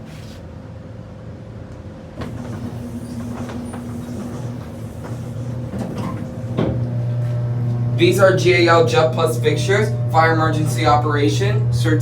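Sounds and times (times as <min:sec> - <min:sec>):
elevator mechanical hum: 0:00.6 - 0:12.0.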